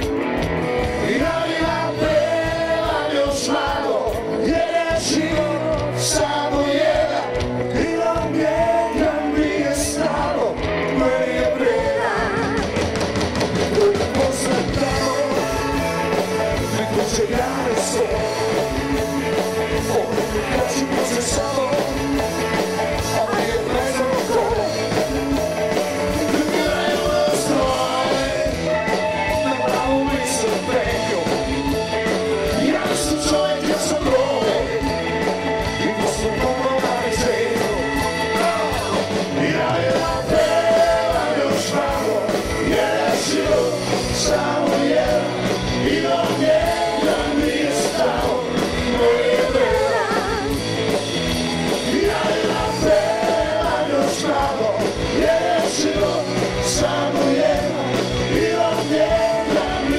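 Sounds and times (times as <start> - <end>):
drums: 0.0 - 59.9
electric guitar: 0.0 - 59.9
keyboards: 0.0 - 59.9
man singing lead: 0.8 - 51.0, 51.6 - 59.9.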